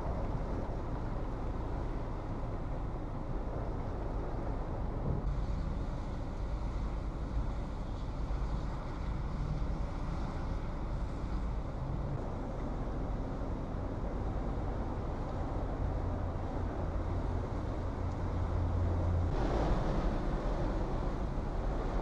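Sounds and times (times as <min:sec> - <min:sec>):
wind buffeting microphone: 0:00.0 - 0:22.0
wind-driven rain: 0:00.0 - 0:22.0.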